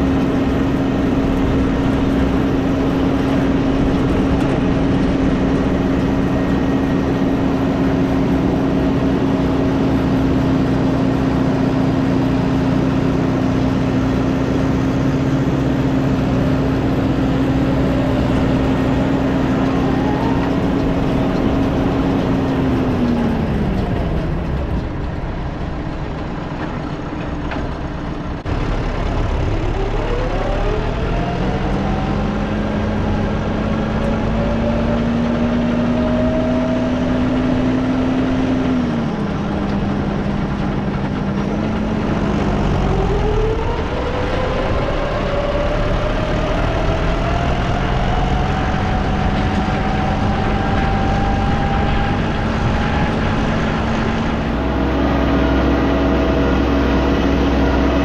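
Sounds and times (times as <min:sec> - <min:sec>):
high mechanical whine: 0:00.0 - 0:58.0
tractor engine running: 0:00.0 - 0:58.0.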